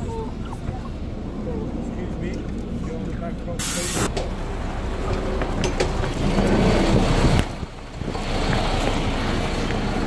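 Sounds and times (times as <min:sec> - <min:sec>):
street noise: 0:00.0 - 0:10.0
vehicle engine running: 0:00.0 - 0:10.0.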